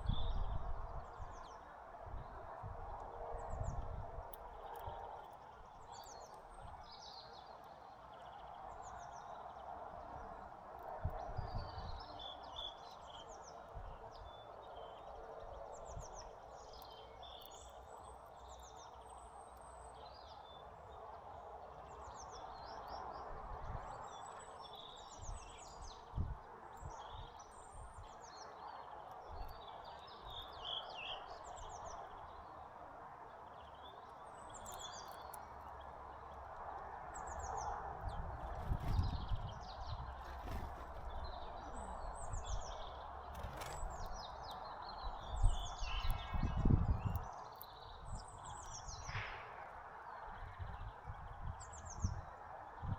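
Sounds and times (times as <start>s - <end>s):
small birds chirping: 0.0s - 49.4s.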